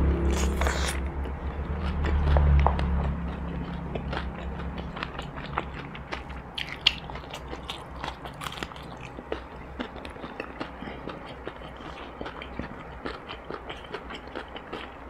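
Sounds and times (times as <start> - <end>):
crunchy chewing: 0.3 - 15.0.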